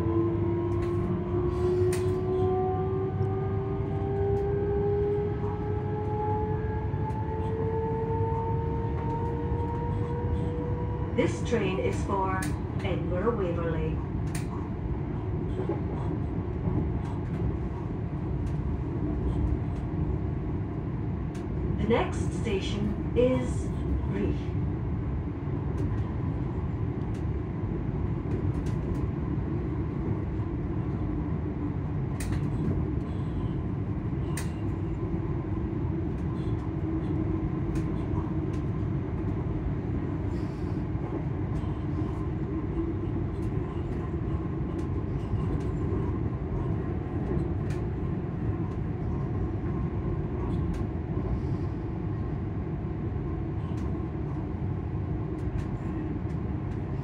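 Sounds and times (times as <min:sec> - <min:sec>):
wheels rumbling on rails: 0:00.0 - 0:51.8.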